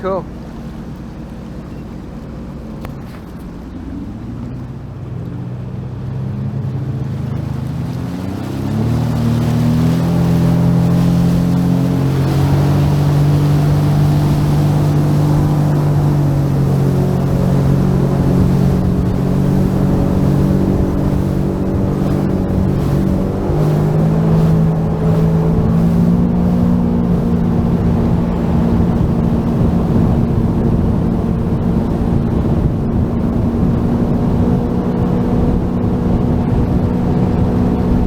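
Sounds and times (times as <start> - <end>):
jet ski engine accelerating: 0.0 - 38.0.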